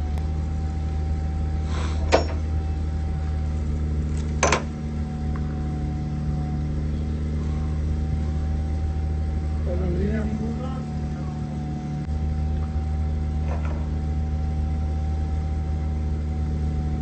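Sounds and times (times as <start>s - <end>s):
factory machinery humming: 0.0s - 17.0s
thin steady whine: 0.0s - 17.0s.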